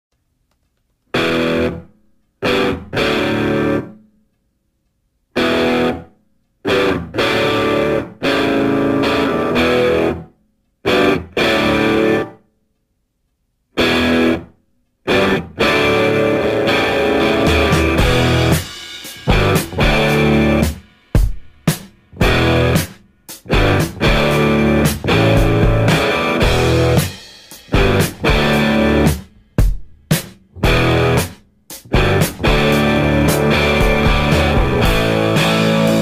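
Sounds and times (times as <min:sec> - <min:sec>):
distorted electric guitar: 0:01.1 - 0:04.0, 0:05.4 - 0:12.4, 0:13.8 - 0:29.7, 0:30.6 - 0:36.0.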